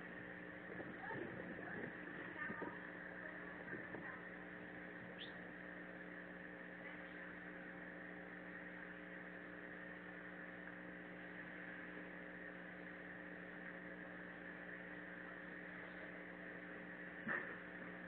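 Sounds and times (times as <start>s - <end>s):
electrical hum with low hiss: 0.0s - 18.0s.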